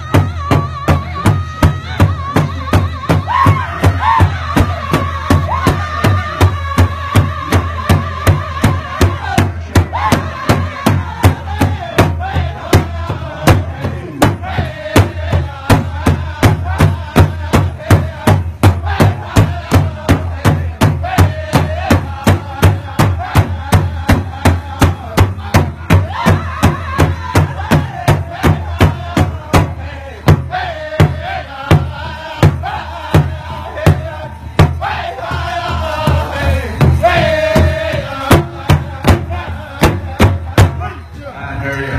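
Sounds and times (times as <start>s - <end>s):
loud steady drum beat: 0.0s - 41.0s
crowd chanting: 2.5s - 41.9s.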